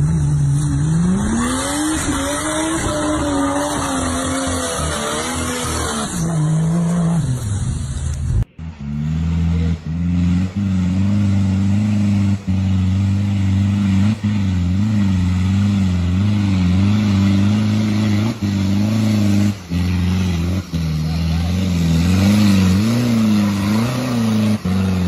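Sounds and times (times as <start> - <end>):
off-road truck engine climbing: 0.0 - 25.0.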